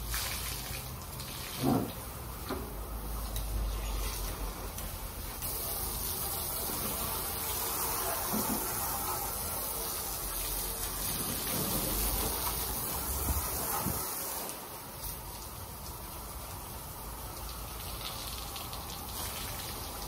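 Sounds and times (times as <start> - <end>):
pressure washer spraying glass: 1.4 - 20.0.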